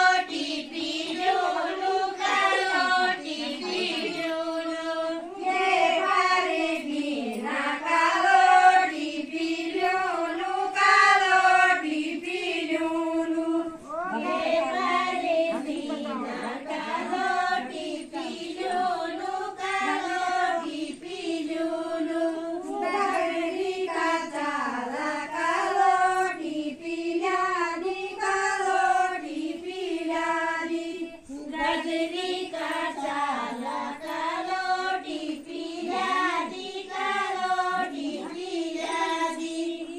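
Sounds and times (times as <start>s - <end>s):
women singing together unaccompanied: 0.0s - 39.9s.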